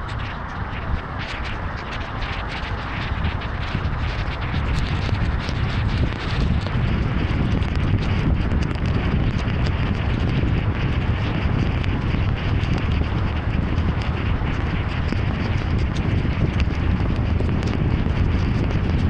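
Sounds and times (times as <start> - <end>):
heavy rain on a car: 0.0 - 19.0
rain drops hitting: 0.0 - 19.0
tyre and wind noise: 0.0 - 19.0.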